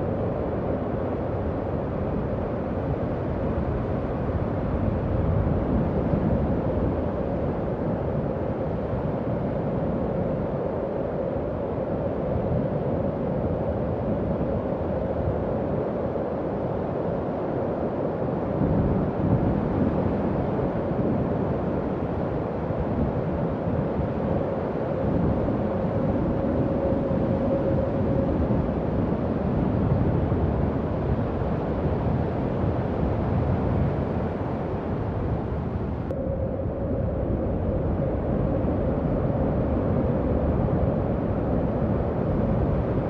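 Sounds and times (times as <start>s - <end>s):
howling wind: 0.0s - 43.0s.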